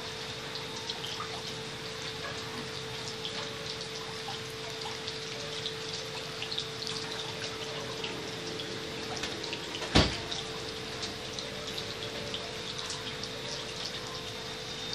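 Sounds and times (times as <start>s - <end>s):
refrigerant gurgling: 0.0s - 14.9s
refrigerator hum: 0.0s - 14.9s.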